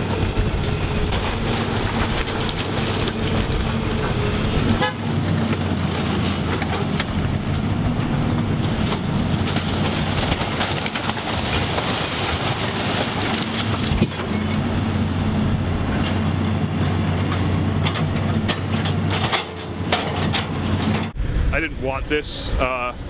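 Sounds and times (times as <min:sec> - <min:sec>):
debris clattering and crashing: 0:00.0 - 0:15.2, 0:15.8 - 0:21.2
wood splintering: 0:00.0 - 0:21.0
excavator diesel engine humming: 0:00.0 - 0:21.5.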